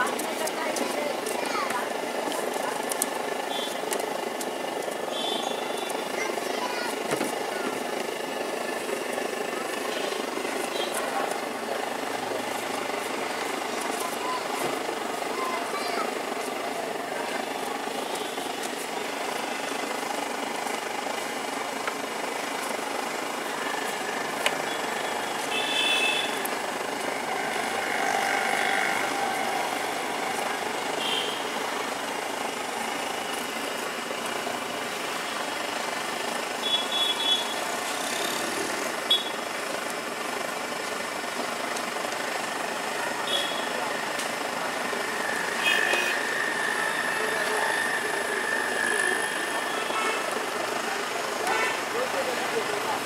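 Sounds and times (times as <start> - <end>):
city street traffic: 0.0 - 53.0.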